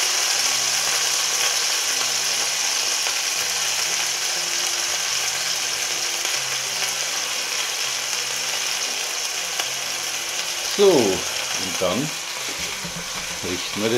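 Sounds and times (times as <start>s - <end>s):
meat sizzling in a pan: 0.0s - 13.9s.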